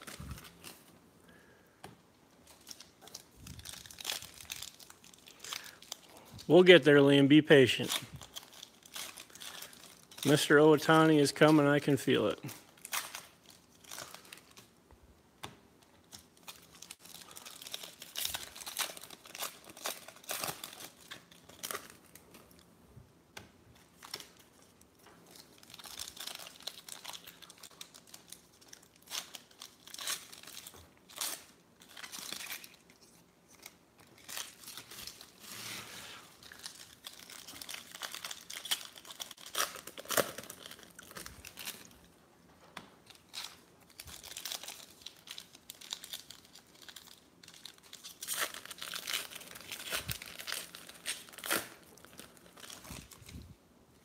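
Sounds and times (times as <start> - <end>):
foil packs tearing and crinkling: 0.0 - 0.8, 2.4 - 14.7, 16.0 - 22.6, 24.0 - 42.0, 43.0 - 53.5.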